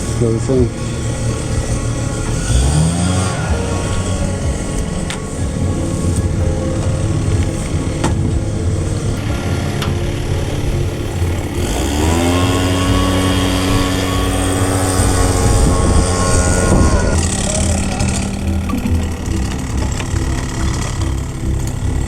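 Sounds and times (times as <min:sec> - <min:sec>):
engine running and revving: 0:00.0 - 0:22.0.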